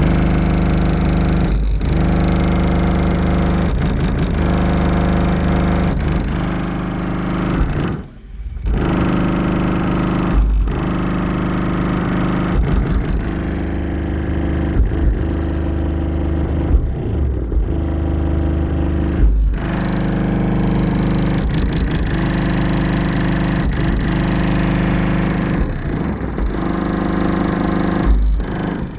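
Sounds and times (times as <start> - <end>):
distorted subwoofer bass drone: 0.0 - 28.9.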